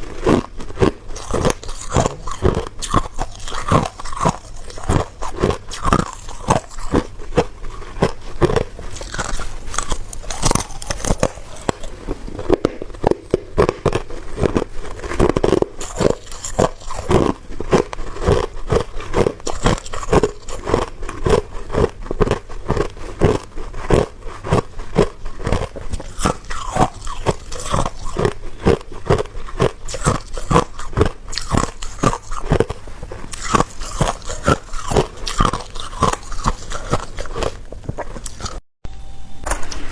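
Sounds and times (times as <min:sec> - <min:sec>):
person chewing ice: 0:00.0 - 0:38.6.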